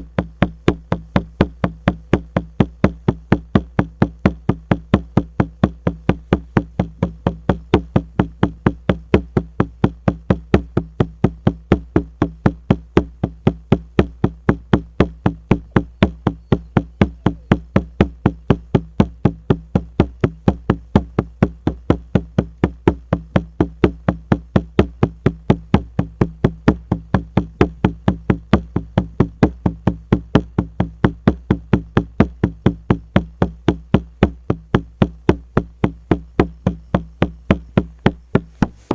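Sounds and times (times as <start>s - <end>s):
frame drum beating: 0.0s - 38.9s.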